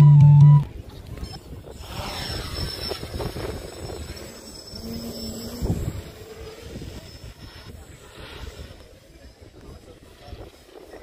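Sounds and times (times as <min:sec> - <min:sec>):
wind buffeting microphone: 0:00.6 - 0:11.0
drone propellers buzzing: 0:00.7 - 0:11.0.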